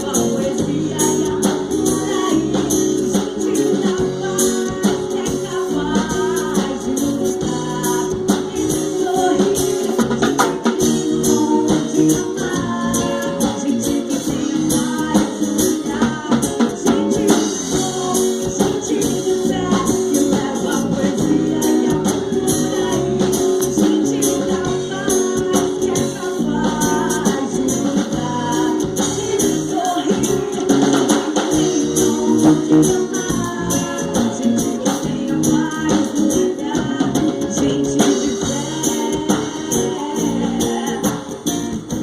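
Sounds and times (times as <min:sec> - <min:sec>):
live band playing reggae-pop: 0:00.0 - 0:42.0
person singing: 0:00.0 - 0:42.0.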